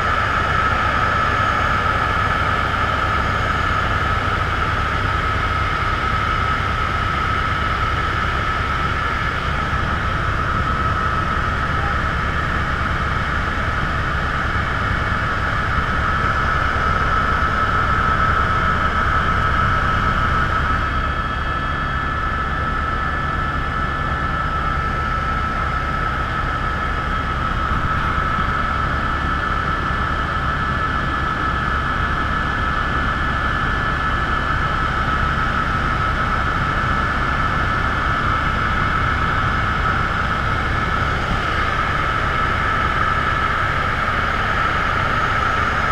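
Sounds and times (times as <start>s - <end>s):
helicopter cabin drone: 0.0s - 45.9s.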